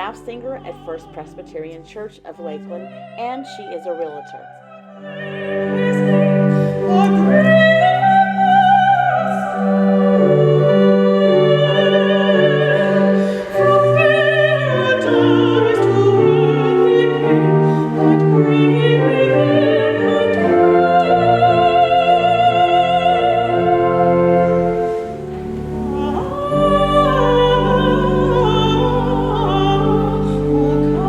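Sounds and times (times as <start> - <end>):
soprano singing operatic: 0.0 - 31.0
instrumental accompaniment: 5.0 - 31.0.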